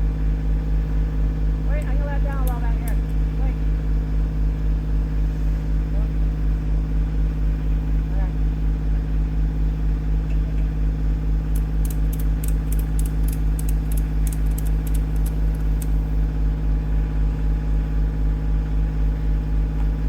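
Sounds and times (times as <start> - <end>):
tractor engine running: 0.0 - 7.9, 10.7 - 20.0.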